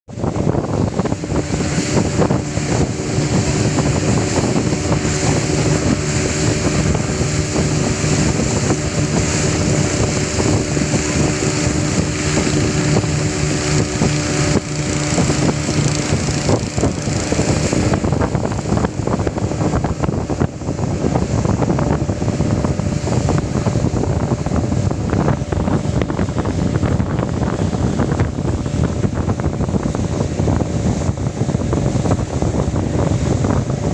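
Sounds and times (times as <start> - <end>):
motorboat engine running: 0.1 - 33.9
wind buffeting microphone: 0.1 - 33.9.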